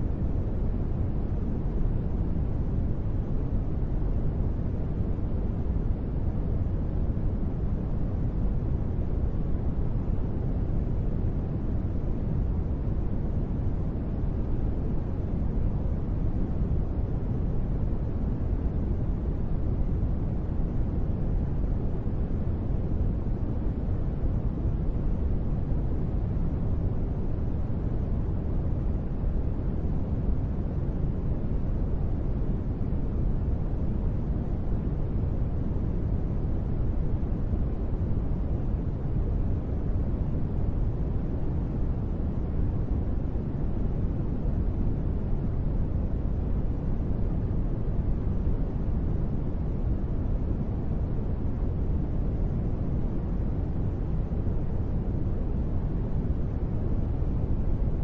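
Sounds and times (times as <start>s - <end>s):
steady low rain noise: 0.0s - 58.0s.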